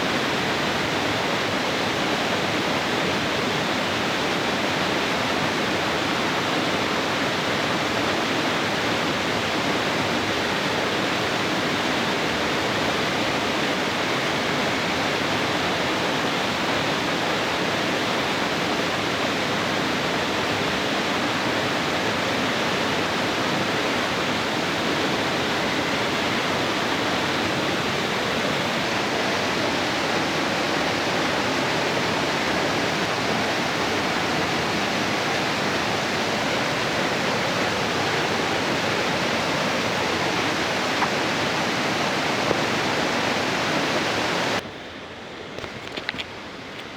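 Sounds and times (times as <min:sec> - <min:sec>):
waterfall rushing: 0:00.0 - 0:44.6.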